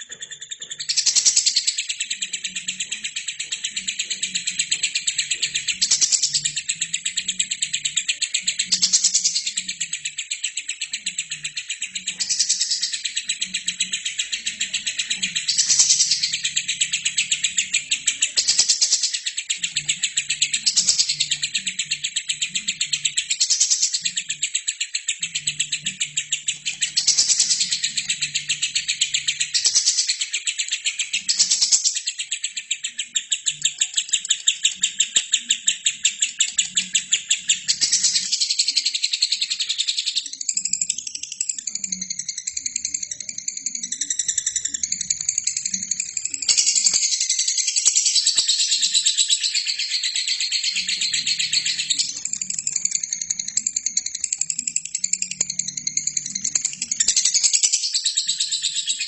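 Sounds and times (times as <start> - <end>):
lovebird chattering trill: 0.0 - 59.0.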